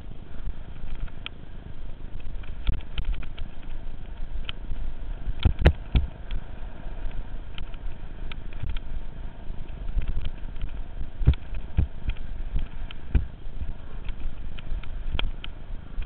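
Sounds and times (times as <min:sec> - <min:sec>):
bike knocking and rattling: 0:00.0 - 0:16.0
wind and tyres rumbling: 0:00.0 - 0:16.0.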